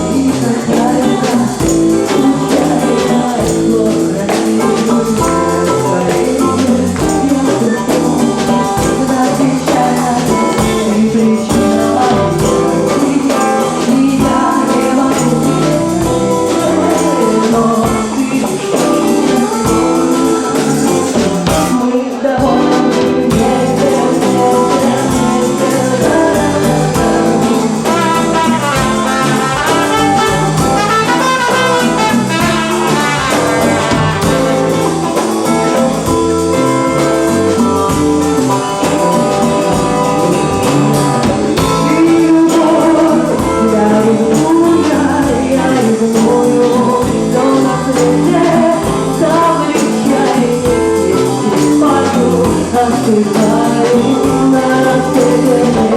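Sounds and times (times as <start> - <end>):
band playing: 0.0 - 55.9
person singing: 0.0 - 55.9.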